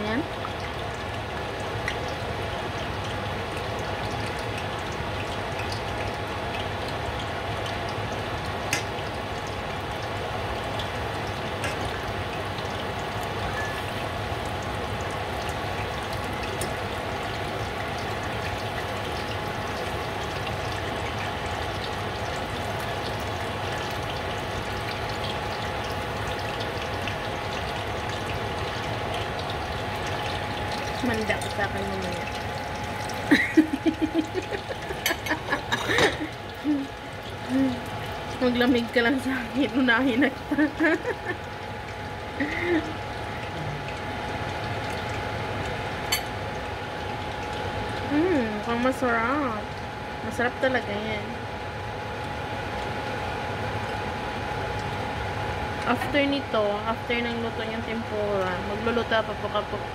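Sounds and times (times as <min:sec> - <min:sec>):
battered food frying in oil: 0:00.0 - 0:59.9.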